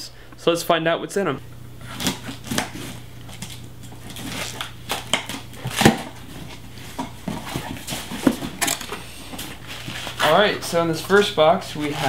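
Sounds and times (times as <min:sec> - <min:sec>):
cardboard and packing rustling: 0:01.8 - 0:12.0.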